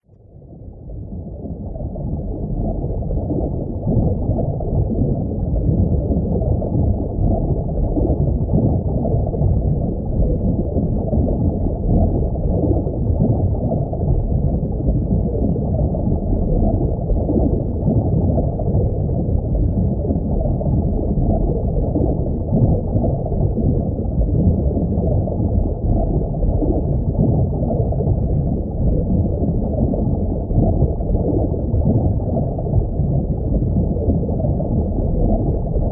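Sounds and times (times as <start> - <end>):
muffled underwater rumble: 0.0 - 35.9.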